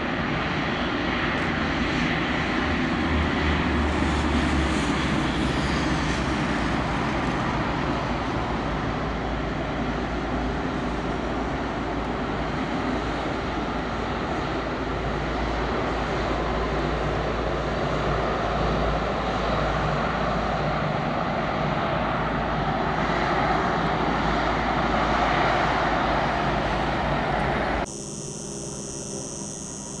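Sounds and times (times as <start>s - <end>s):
jet airliner taxiing: 0.0s - 30.0s.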